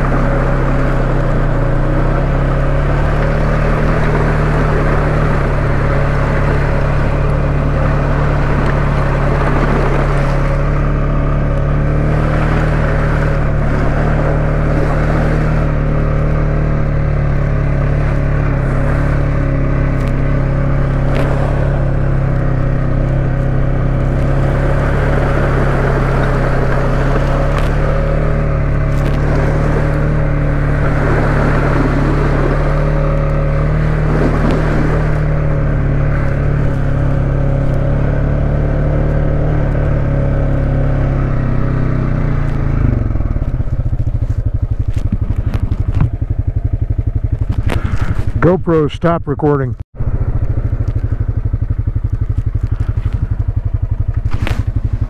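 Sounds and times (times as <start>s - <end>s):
tyres swishing through water: 0.0s - 48.6s
atv engine running: 0.0s - 55.0s.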